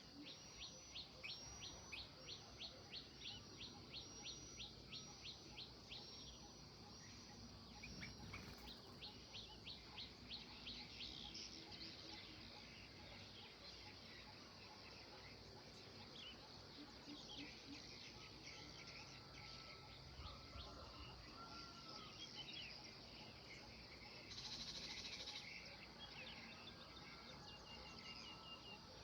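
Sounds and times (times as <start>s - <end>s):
faint bird song: 0.0s - 29.0s.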